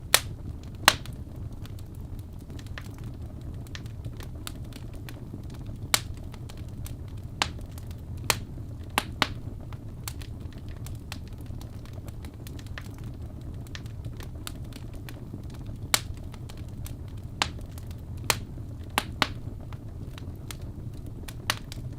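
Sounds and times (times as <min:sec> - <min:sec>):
burning logs popping: 0:00.0 - 0:21.9
fire crackling: 0:00.0 - 0:21.9
low rumble of flames: 0:00.0 - 0:21.9.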